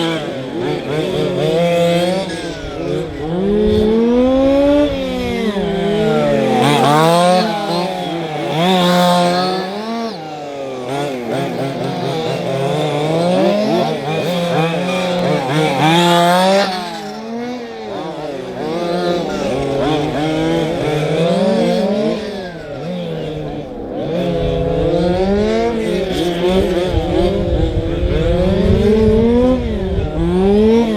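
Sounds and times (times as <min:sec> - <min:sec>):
model racing car motors whining: 0:00.0 - 0:30.9.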